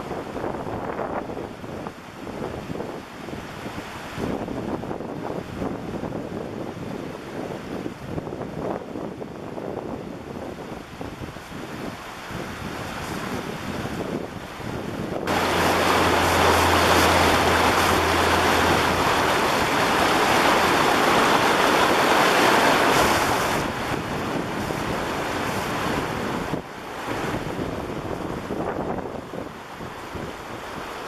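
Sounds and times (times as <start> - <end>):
turbulent river water roaring: 0.0 - 31.0
wind rumbling on microphone: 0.0 - 31.0.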